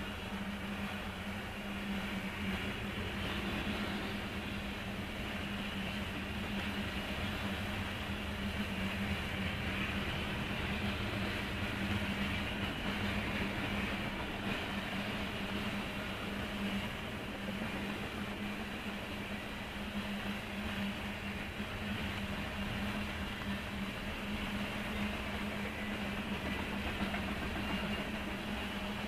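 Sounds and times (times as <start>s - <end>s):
muffled train rolling rumble: 0.0s - 29.0s.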